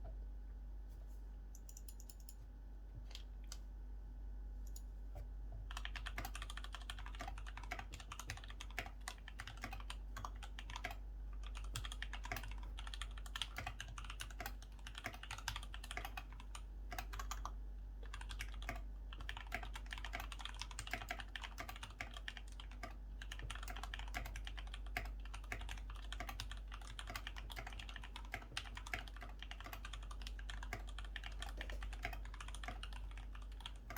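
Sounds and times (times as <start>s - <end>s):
typing on mechanical keyboard: 5.7s - 33.9s.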